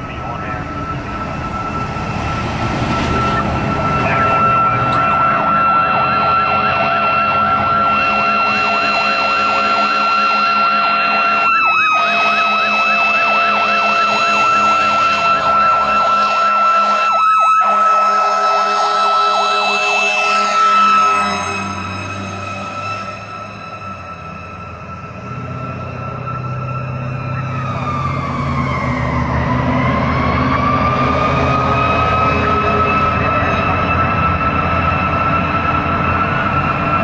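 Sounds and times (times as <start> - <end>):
fast electronic siren yelp: 0.0 - 37.0
steady high siren tone: 0.0 - 37.0.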